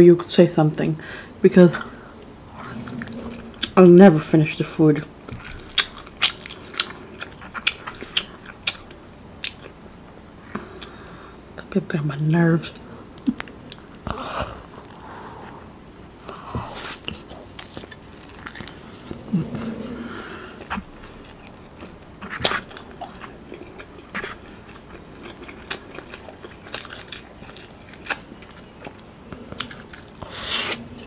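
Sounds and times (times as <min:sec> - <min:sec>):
chewing food: 0:01.8 - 0:03.9, 0:05.0 - 0:11.0, 0:12.7 - 0:31.0.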